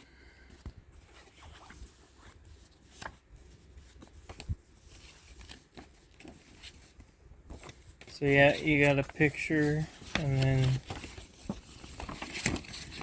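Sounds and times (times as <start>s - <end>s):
paper booklet rustling: 0.5s - 13.0s.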